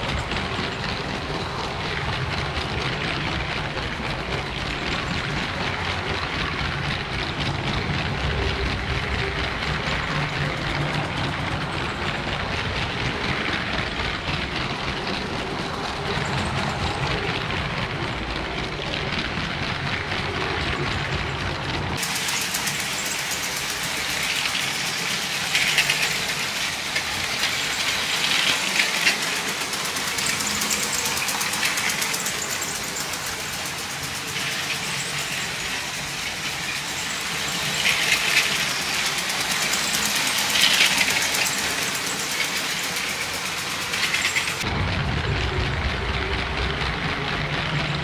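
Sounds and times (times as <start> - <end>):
toy train wheels clattering: 0.0 - 48.0.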